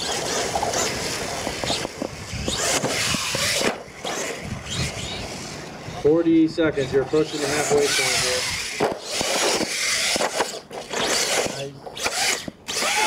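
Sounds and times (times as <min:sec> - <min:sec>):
toy truck motor whine: 0:00.0 - 0:05.8, 0:07.2 - 0:13.0
tires scrabbling on dirt: 0:00.0 - 0:06.1, 0:07.2 - 0:13.0.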